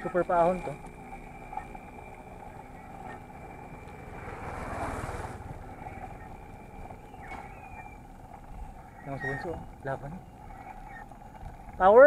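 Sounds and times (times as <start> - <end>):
wind buffeting microphone: 0.8 - 12.0.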